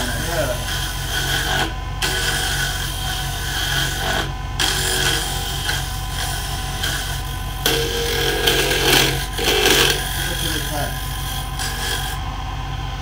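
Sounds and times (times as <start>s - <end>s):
gouge scraping spinning wood: 0.0s - 12.3s
lathe motor hum: 0.0s - 13.0s.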